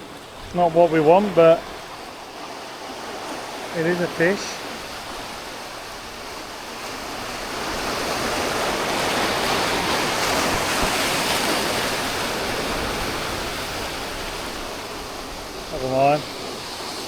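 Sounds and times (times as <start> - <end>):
ocean wave breaking: 0.0 - 17.0.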